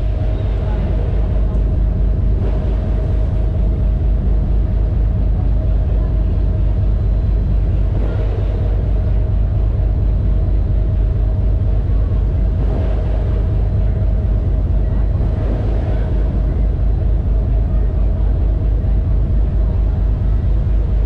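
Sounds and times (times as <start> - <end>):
ferry engine and wake rumble: 0.0 - 21.0
steady hum: 0.0 - 21.0.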